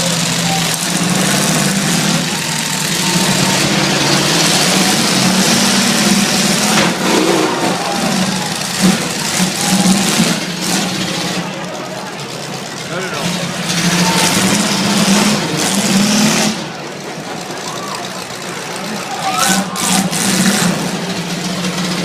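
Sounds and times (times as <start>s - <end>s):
truck engines revving: 0.0s - 22.0s.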